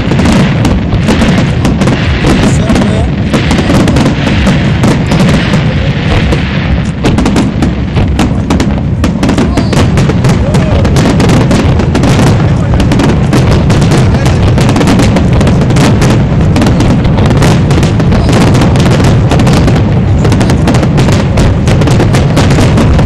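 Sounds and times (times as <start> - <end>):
fireworks booming and crackling: 0.0 - 23.0.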